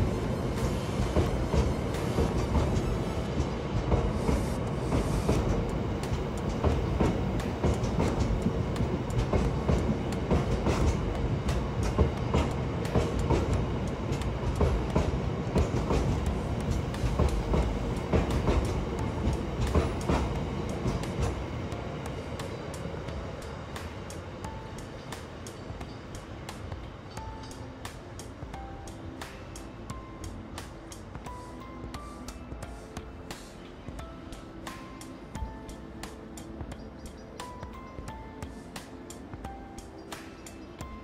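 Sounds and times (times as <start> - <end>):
wheels clicking on track: 0.0 - 41.0.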